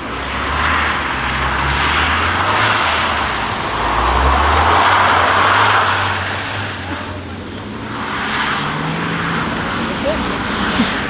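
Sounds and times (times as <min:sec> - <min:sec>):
car engine and exhaust: 0:00.0 - 0:11.0.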